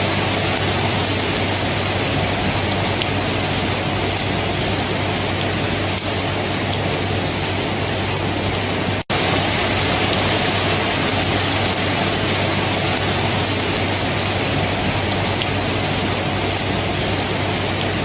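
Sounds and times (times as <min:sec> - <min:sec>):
steady dense rainfall: 0:00.0 - 0:18.0.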